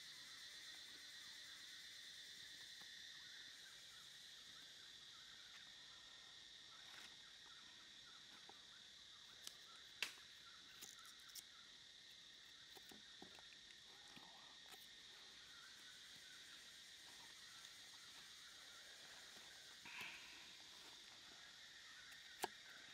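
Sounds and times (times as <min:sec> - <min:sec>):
insect drone: 0:00.0 - 0:22.9.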